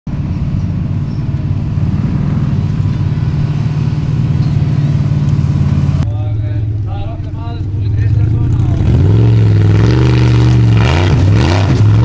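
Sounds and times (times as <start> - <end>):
buggy engine rough low rumble: 0.1 - 12.0.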